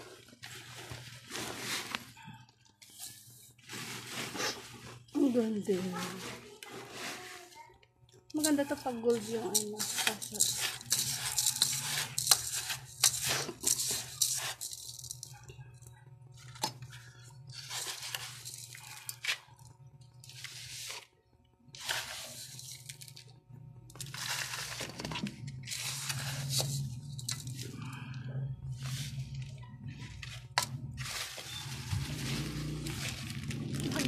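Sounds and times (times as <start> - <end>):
potting mix scooped by hand: 0.0 - 15.4, 16.4 - 23.3, 23.9 - 34.0.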